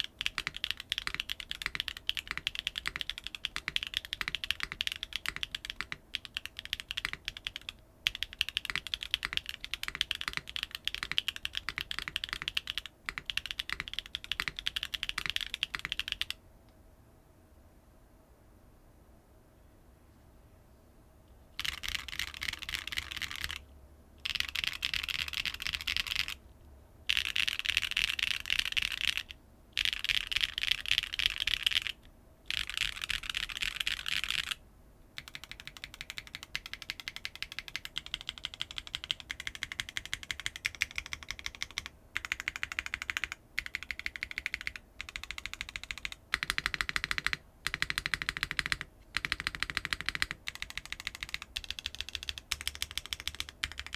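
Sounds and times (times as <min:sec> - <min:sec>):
mechanical keyboard typing: 0:00.0 - 0:16.4, 0:21.6 - 0:23.6, 0:24.2 - 0:26.4, 0:27.1 - 0:34.6, 0:35.2 - 0:53.9.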